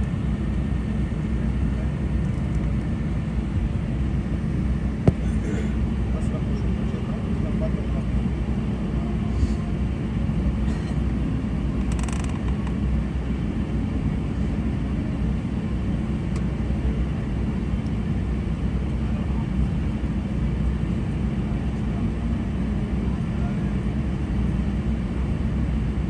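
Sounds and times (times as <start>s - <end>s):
low aircraft cabin drone: 0.0s - 26.0s.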